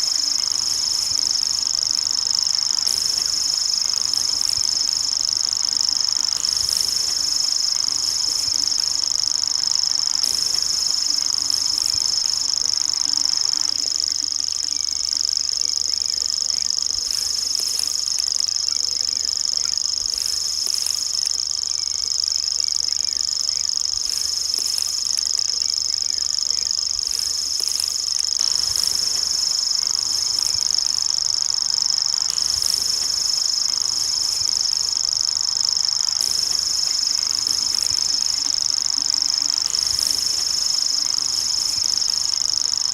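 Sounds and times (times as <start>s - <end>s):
bird reeling trill: 0.0s - 42.9s.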